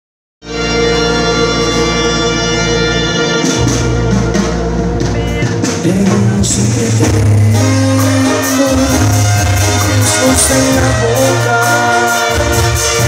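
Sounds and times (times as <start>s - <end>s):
amplified brass band playing: 0.4s - 13.0s
drums: 0.4s - 13.0s
tuba: 0.4s - 13.0s.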